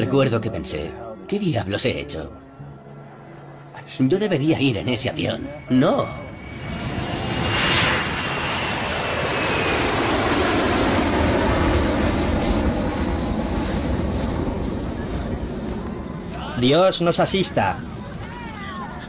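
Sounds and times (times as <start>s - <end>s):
aircraft engines rushing: 0.0s - 19.0s.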